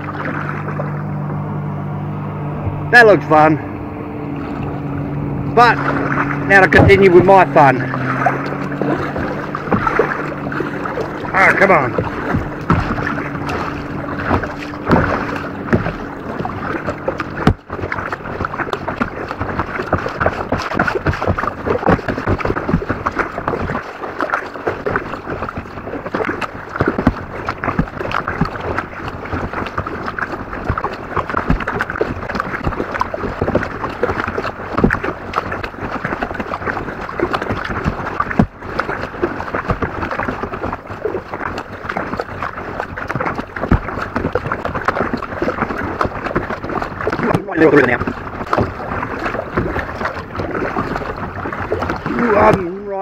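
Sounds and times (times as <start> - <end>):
paddle splashing water: 0.0 - 53.0.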